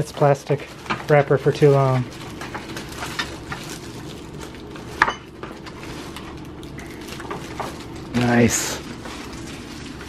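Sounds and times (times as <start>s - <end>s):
plastic film crinkling: 0.0s - 10.0s.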